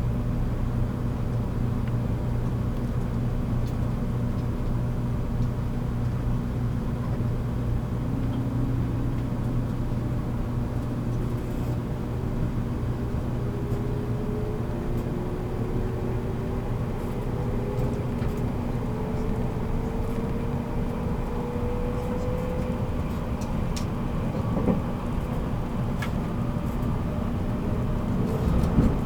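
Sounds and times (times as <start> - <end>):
train low hum: 0.0 - 29.0.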